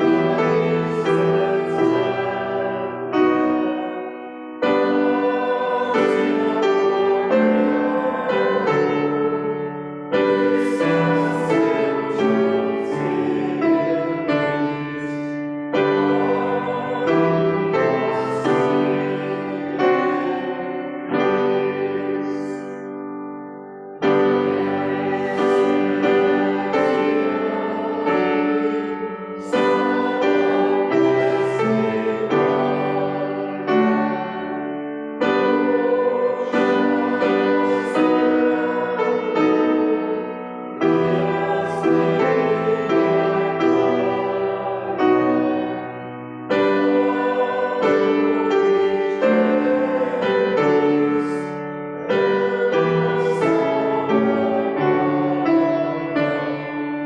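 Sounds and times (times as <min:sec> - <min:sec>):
congregation singing a hymn: 0:00.0 - 0:57.0
keyboard accompaniment: 0:00.0 - 0:57.0.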